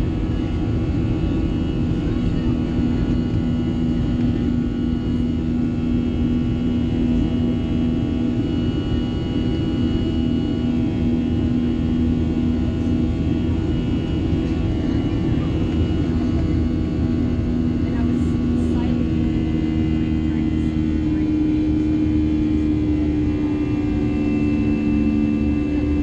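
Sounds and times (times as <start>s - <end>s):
jet engines droning: 0.0s - 26.0s.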